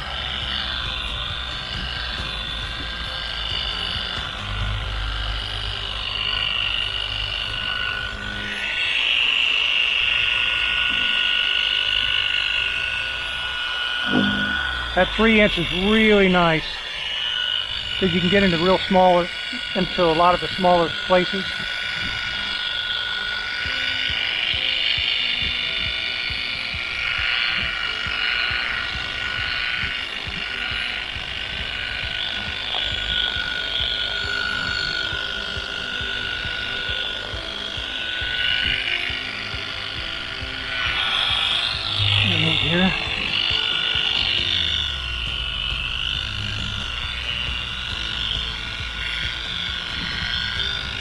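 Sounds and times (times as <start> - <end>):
polishing buffer motor whine: 0.0 - 51.0.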